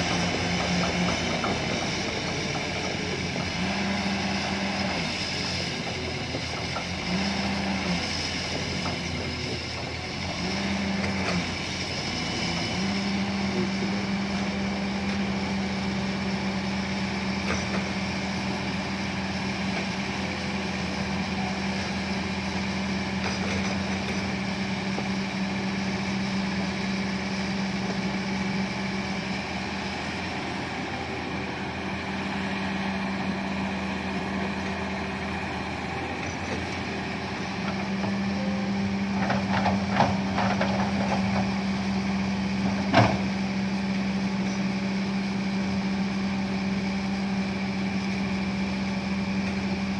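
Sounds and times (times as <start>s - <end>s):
excavator diesel engine humming: 0.0s - 49.9s.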